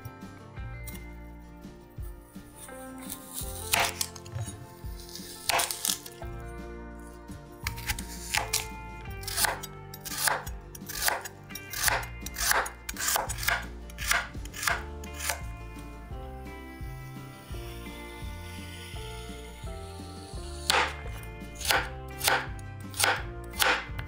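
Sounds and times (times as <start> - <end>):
background music: 0.0 - 24.0
knife slicing carrot on board: 2.0 - 6.3, 7.6 - 15.6, 16.6 - 24.0.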